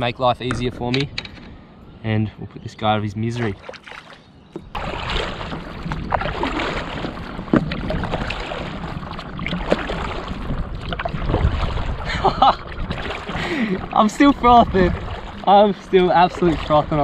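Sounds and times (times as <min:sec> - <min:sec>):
paddle splashing through water: 0:03.4 - 0:17.0.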